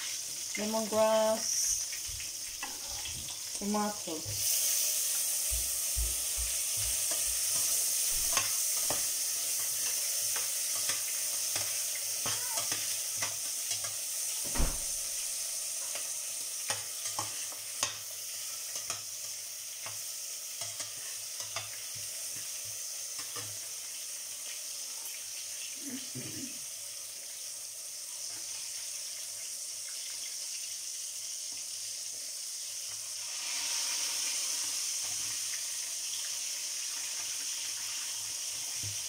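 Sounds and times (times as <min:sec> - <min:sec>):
vegetables sizzling in a pot: 0:00.0 - 0:39.0.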